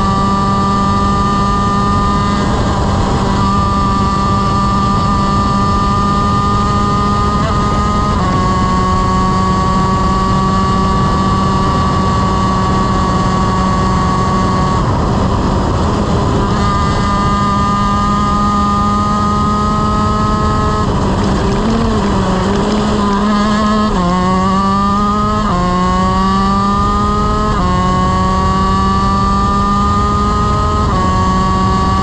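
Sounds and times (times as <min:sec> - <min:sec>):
kart engine revving high: 0:00.0 - 0:32.0.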